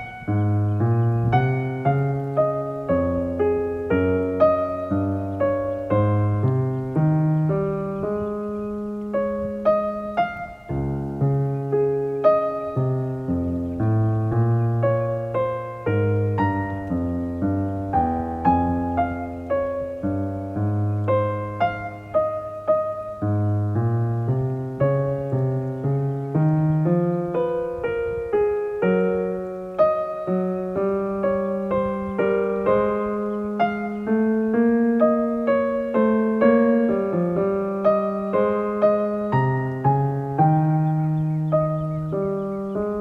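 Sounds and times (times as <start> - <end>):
soft piano music: 0.0 - 43.0.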